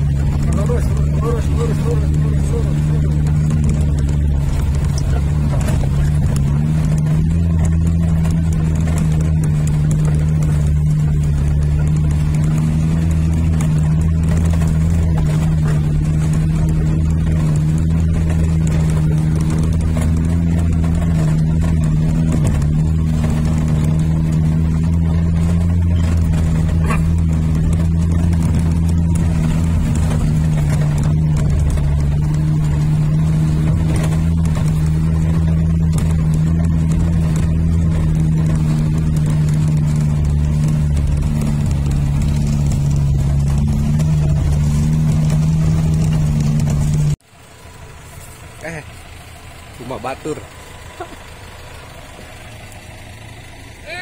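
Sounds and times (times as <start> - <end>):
car engine drone: 0.0 - 54.0.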